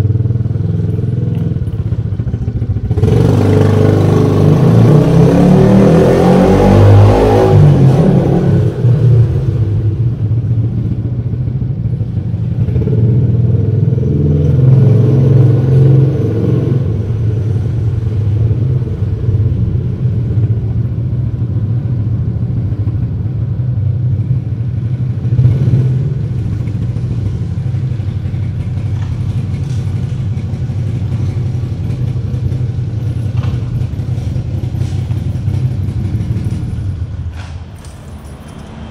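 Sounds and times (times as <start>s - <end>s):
scooter engine humming: 0.0s - 37.3s.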